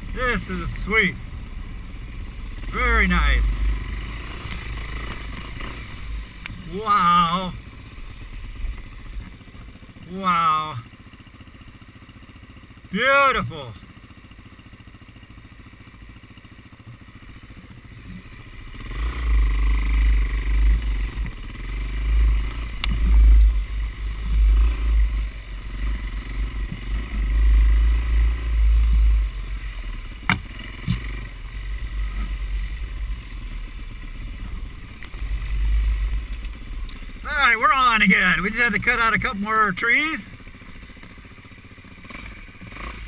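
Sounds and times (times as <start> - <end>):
motorcycle engine rumble: 0.0 - 43.0.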